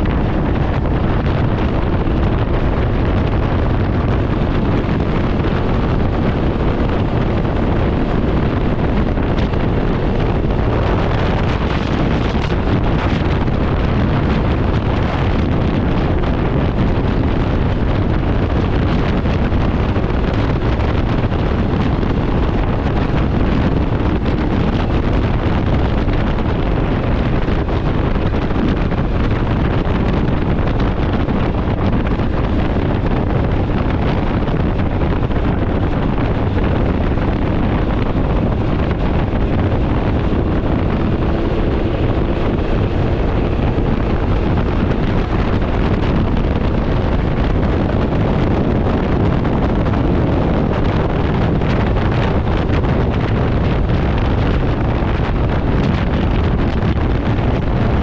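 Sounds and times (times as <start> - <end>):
motorcycle engine and road noise: 0.0 - 58.0
wind blasting microphone: 0.0 - 58.0.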